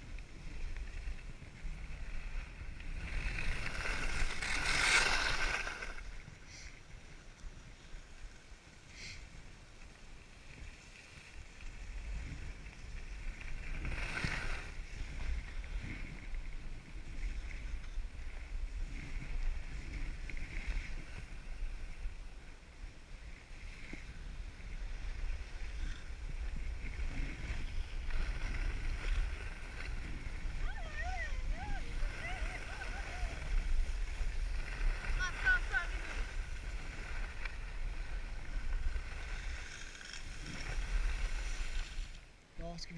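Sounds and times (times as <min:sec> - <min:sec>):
skis scraping over snow: 0:00.0 - 0:42.4
wind rumbling on microphone: 0:00.0 - 0:42.9.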